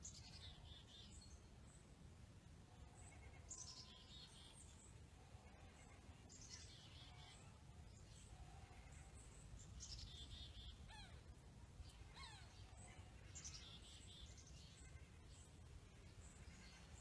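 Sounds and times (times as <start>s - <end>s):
birds twittering chirps: 0.0s - 2.0s, 2.8s - 17.0s.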